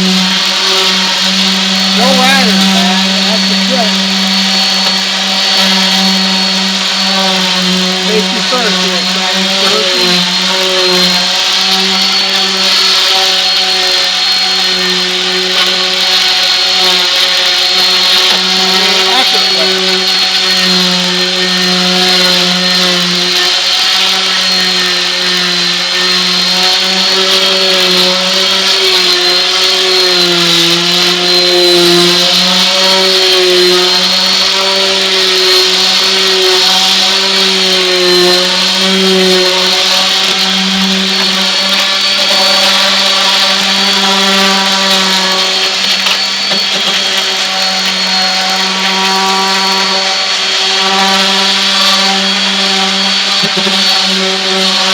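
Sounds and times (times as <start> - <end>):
orbital sander whining on wood: 0.0 - 54.9.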